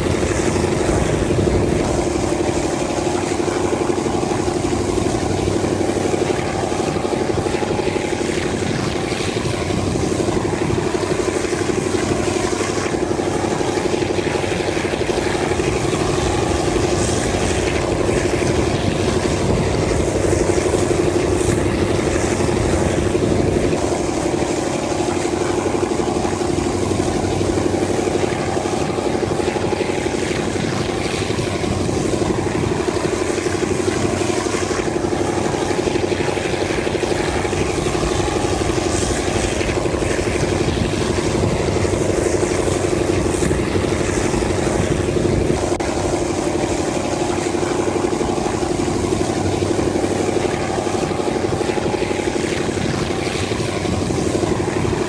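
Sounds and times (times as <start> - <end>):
locomotive engine hum: 0.0 - 55.0.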